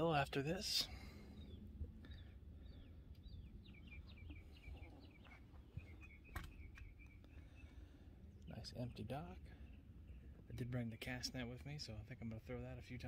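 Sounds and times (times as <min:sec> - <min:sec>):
small bird chirping: 0:01.3 - 0:12.4.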